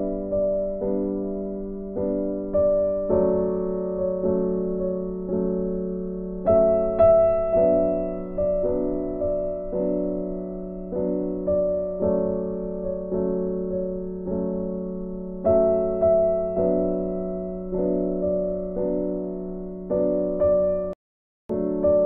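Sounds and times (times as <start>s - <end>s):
slow soft piano piece: 0.0s - 22.0s.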